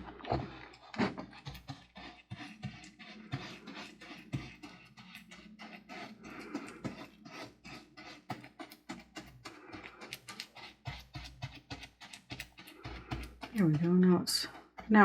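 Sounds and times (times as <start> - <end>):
tool scraping gritty mixture: 0.0 - 15.0.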